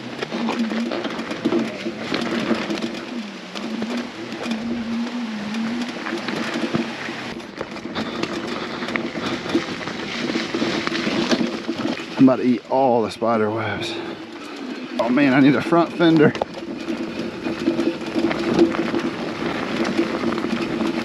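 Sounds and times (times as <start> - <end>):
tyres on gravel: 0.0 - 21.0.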